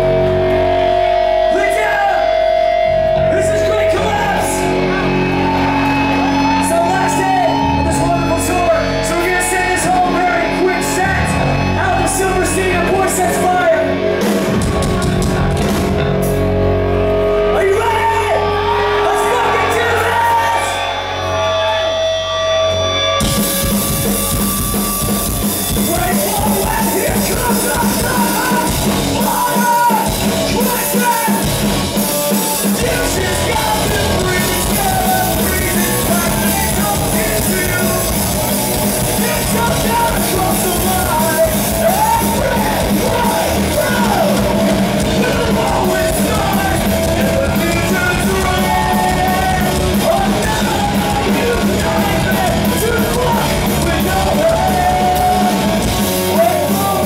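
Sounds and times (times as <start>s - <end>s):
fast driving drums: 0.0s - 57.0s
live rock band playing: 0.0s - 57.0s
singer yelling into microphone: 1.2s - 5.3s, 6.1s - 14.0s, 17.4s - 21.9s, 25.7s - 31.6s, 32.6s - 57.0s.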